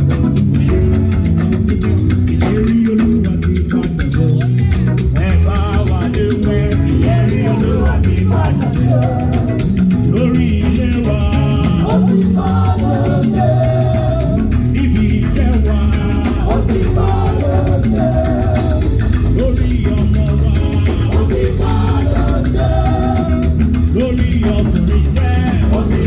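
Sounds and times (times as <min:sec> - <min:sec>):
loud music with percussion beat: 0:00.0 - 0:26.0.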